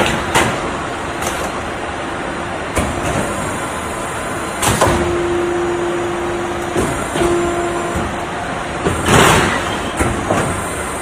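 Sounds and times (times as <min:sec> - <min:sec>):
machine noise: 0:00.0 - 0:11.0
steady hum: 0:00.0 - 0:11.0.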